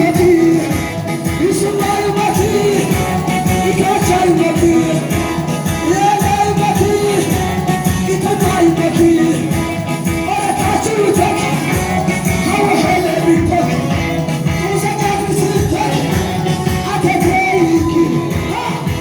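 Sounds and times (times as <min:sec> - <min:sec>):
band accompaniment: 0:00.0 - 0:19.0
person singing: 0:00.0 - 0:19.0.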